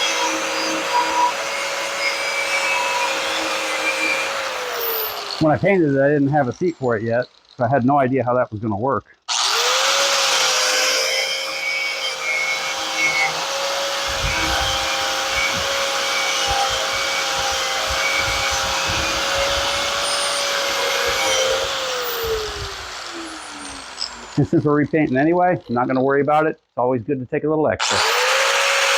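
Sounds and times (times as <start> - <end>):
electric grinder running: 0.0 - 7.6, 9.3 - 25.9, 27.8 - 28.9
grinder winding down whine: 0.0 - 8.1, 9.3 - 26.0, 27.8 - 28.9.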